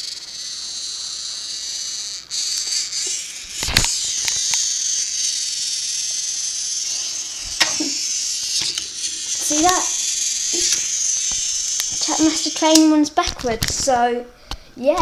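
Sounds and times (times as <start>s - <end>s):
toy motor high-pitched whine: 0.0s - 13.8s.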